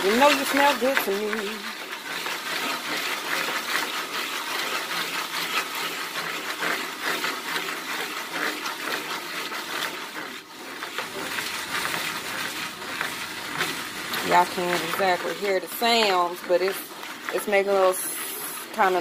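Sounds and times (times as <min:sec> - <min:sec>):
foil pan scraping rattle: 0:00.0 - 0:19.0.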